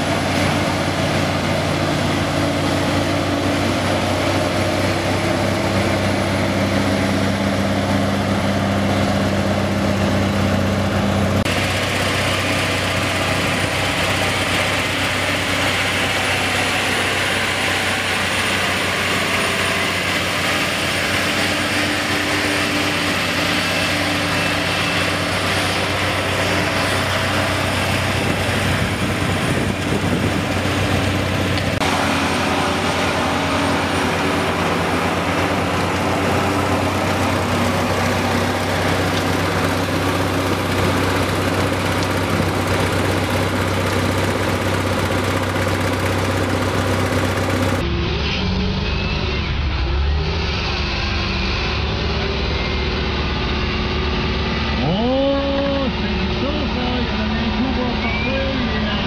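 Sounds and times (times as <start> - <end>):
low engine-like drone: 0.0 - 59.0.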